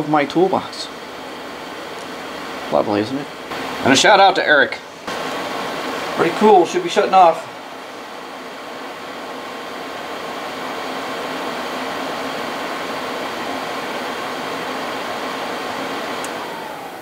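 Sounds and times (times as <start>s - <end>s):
blower fan rushing air: 0.0s - 17.0s
faint steady whine: 0.0s - 17.0s.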